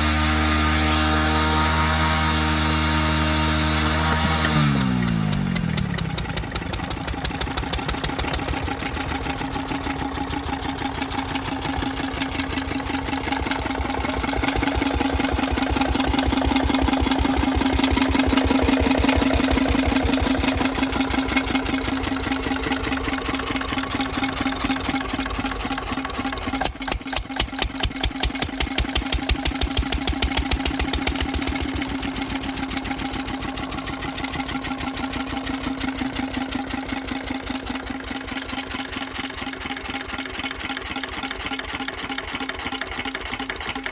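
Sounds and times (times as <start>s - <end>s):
diesel engine running steadily: 0.0s - 43.9s.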